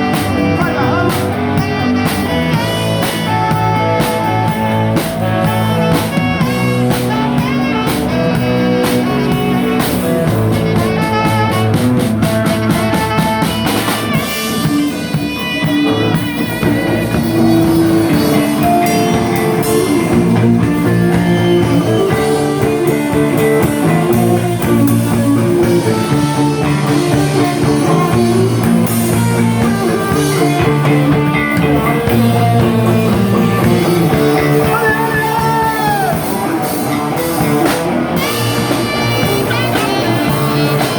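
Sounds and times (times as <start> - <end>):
bass guitar: 0.0 - 40.9
electric guitar: 0.0 - 40.9.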